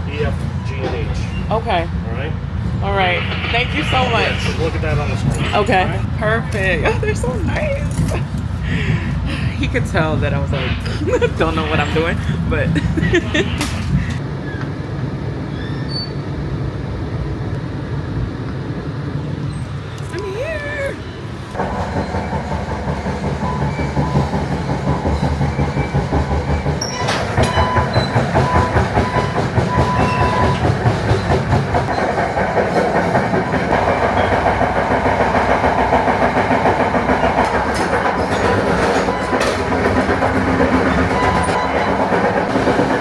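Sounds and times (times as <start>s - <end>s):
train rumbling on rails: 0.0s - 43.0s.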